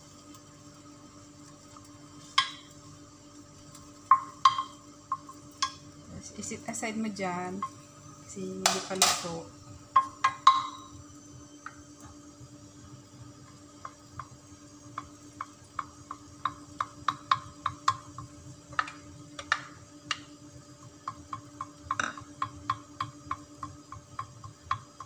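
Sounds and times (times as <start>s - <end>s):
steady low hum: 0.0s - 25.0s
egg popping in frying pan: 1.2s - 6.8s, 7.5s - 7.8s, 8.6s - 11.0s, 13.0s - 25.0s.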